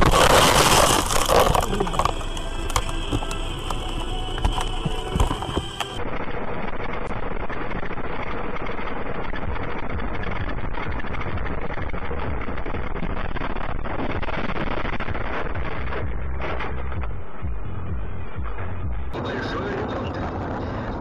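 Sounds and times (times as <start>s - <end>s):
vehicle road and engine noise: 0.0s - 21.0s
wind and tyre rumble: 0.0s - 21.0s.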